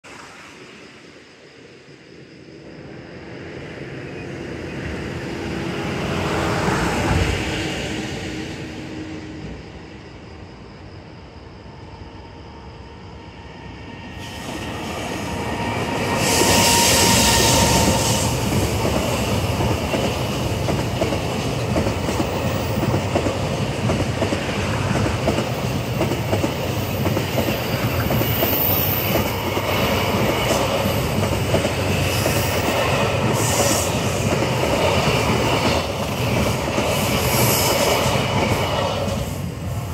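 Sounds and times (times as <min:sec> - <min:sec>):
electric locomotive passing: 0:00.1 - 0:39.9.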